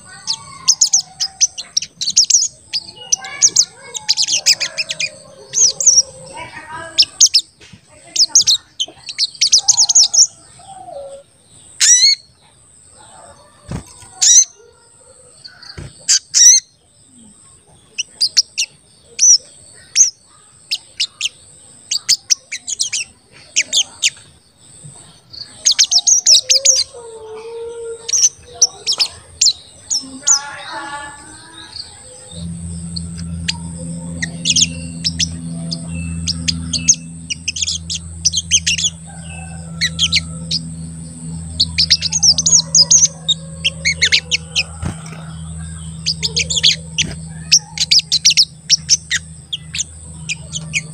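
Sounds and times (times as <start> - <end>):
sunbird chirping: 0.0 - 50.9.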